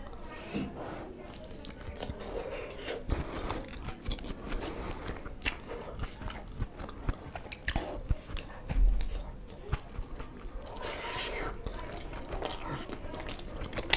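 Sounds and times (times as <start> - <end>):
chewing mouth clicks: 1.3 - 13.9.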